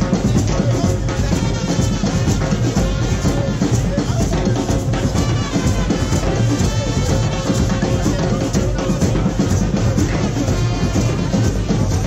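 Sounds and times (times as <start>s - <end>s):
street band drums and percussion: 0.0s - 12.0s.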